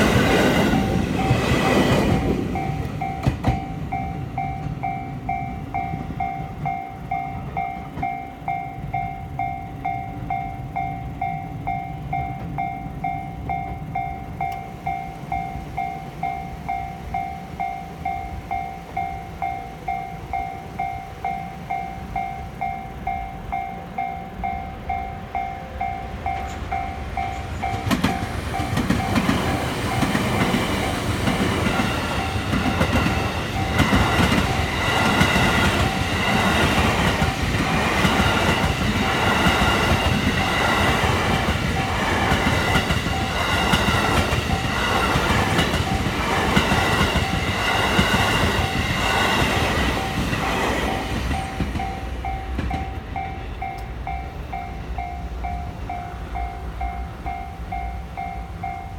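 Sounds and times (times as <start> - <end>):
level-crossing warning bell: 0.0 - 58.9
train wheels clacking: 0.0 - 58.9.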